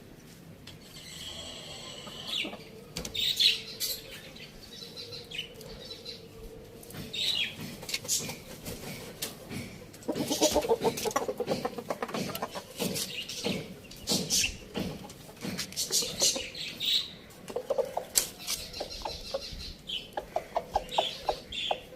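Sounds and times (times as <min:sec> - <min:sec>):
chickens chirping: 0:00.8 - 0:21.9.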